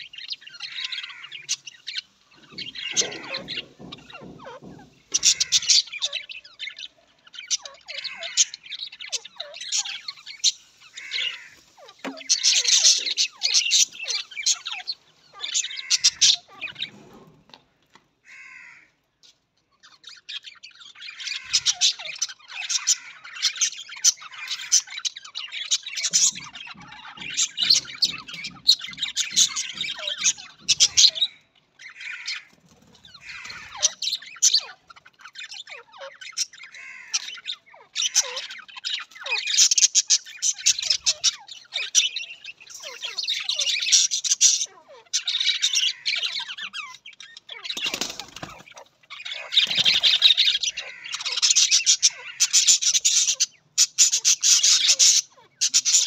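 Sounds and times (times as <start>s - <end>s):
budgerigars chattering: 0.0s - 17.4s, 18.3s - 56.0s.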